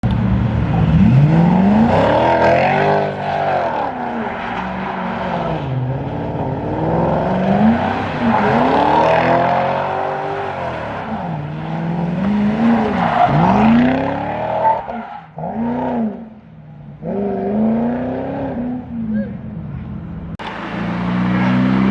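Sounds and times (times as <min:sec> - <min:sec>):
car engines revving hard: 0:00.1 - 0:21.9.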